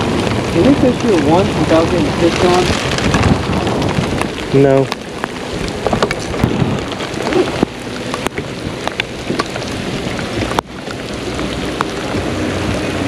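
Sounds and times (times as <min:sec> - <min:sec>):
heavy rain hiss: 0:00.0 - 0:13.0
raindrops tapping: 0:00.0 - 0:13.0.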